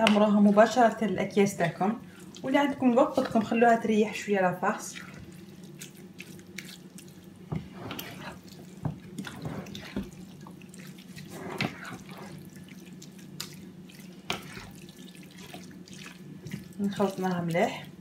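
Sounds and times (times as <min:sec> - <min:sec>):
hands kneading wet meat stuffing: 0:00.0 - 0:18.0.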